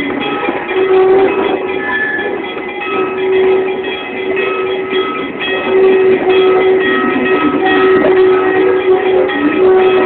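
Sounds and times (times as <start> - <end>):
sustained tone: 0.0 - 10.0
train rolling slowly: 0.0 - 10.0.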